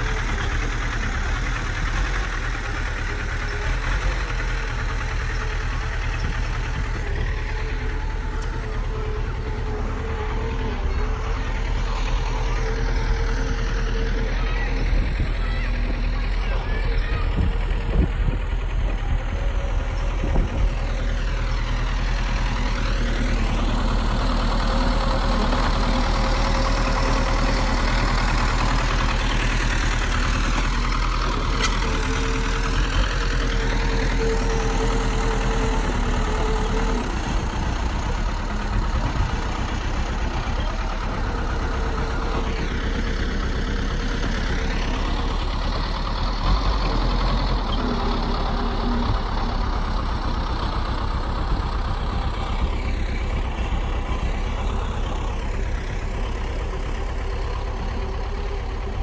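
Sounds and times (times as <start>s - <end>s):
bulldozer diesel engine droning: 0.0s - 59.0s
engine whine: 0.0s - 59.0s.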